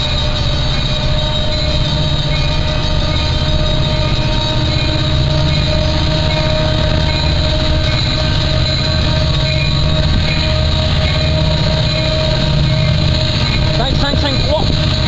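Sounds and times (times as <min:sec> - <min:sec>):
freight train rumbling: 0:00.0 - 0:15.0
steady high tones: 0:00.0 - 0:15.0.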